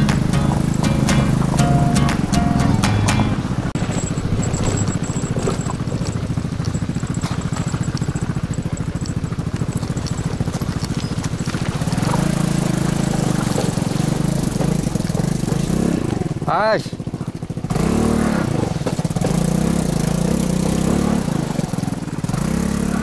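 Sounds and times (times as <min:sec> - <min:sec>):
scooter engine running: 0:00.0 - 0:23.0.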